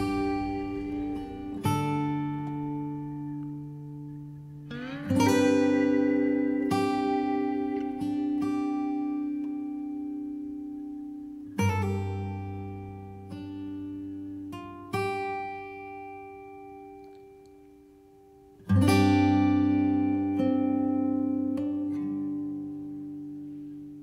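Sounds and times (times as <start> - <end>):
plucked guitar notes: 0.0 - 18.0, 18.6 - 24.0
acoustic guitar strummed chords: 0.0 - 24.0.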